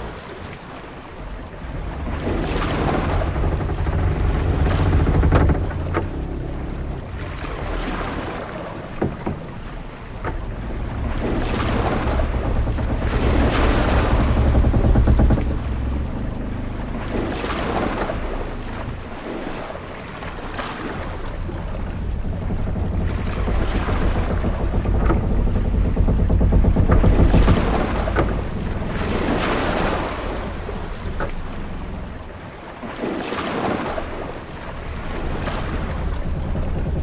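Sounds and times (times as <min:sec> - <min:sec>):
waves washing against hull: 0:00.0 - 0:37.0
deep wind rumble: 0:01.0 - 0:33.0, 0:33.8 - 0:37.0
sharp knocks from ship: 0:01.6 - 0:32.4.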